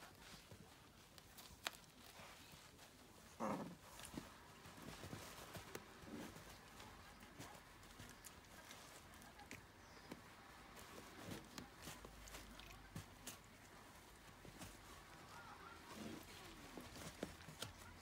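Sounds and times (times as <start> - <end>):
puppies pattering on blanket: 0.0 - 18.0.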